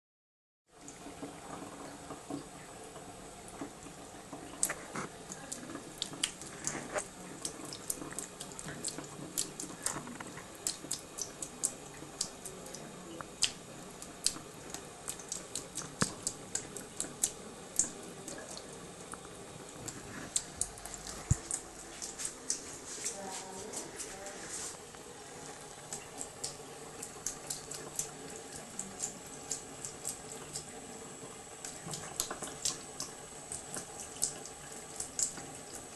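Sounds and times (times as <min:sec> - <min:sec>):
water running from tap: 0:00.7 - 0:35.9
cat lapping water: 0:00.8 - 0:23.1, 0:24.9 - 0:35.9.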